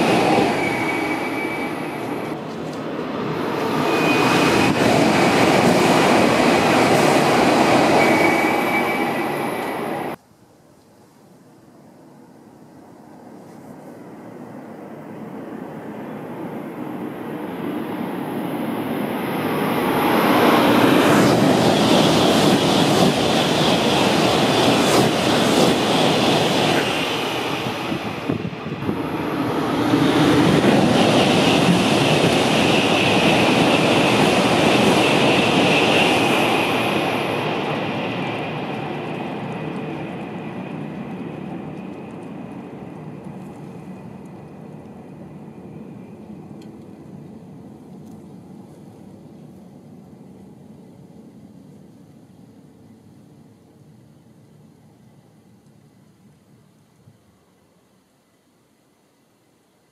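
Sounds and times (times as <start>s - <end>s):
high-speed train passing: 0.0s - 10.2s, 11.6s - 59.9s.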